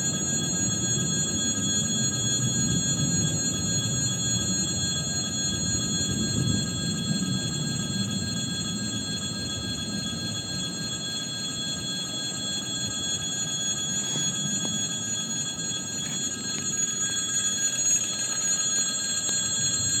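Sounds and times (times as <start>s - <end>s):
high-pitched ringing tones: 0.0s - 20.0s.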